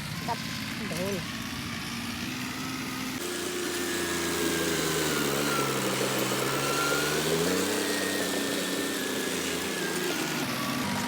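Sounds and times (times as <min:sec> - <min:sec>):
tractor diesel engine labouring: 0:00.0 - 0:11.0.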